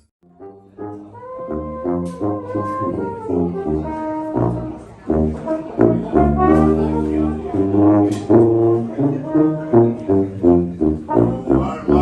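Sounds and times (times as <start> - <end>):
live band playing instrumental: 0.8 - 10.6.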